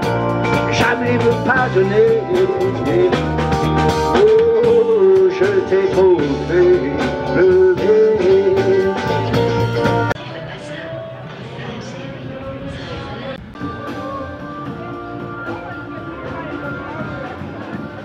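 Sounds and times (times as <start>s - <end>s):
live band playing: 0.0s - 11.6s, 13.1s - 18.0s.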